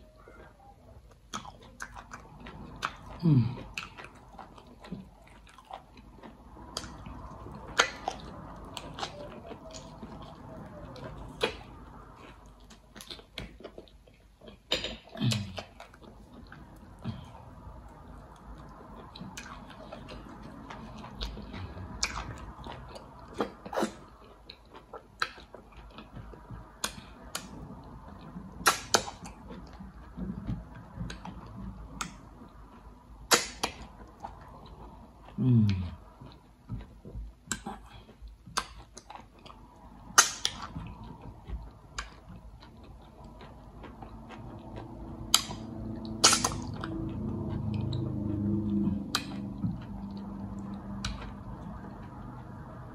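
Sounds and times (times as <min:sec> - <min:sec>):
steady low hum: 0:00.0 - 0:52.9
wet mouth eating sounds: 0:00.2 - 0:52.9.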